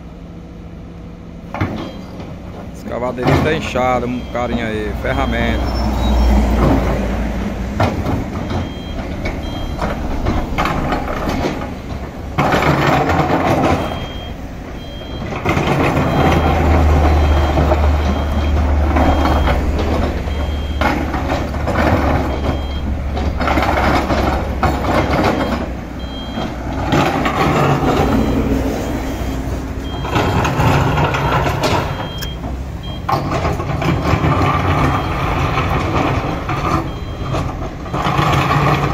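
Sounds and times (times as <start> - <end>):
diesel engine under load: 0.0 - 38.9
reversing alarm beeps: 1.7 - 2.2, 4.0 - 6.7, 8.4 - 11.6, 12.5 - 38.9.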